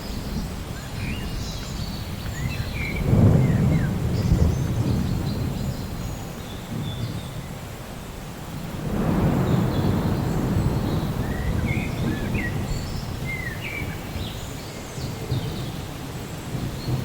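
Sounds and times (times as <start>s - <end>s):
low roll of thunder: 0.0s - 17.0s
rain hissing: 0.0s - 17.0s.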